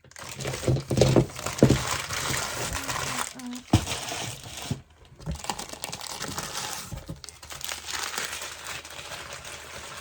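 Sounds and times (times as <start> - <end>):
packing wrap crinkling: 0.0 - 10.0.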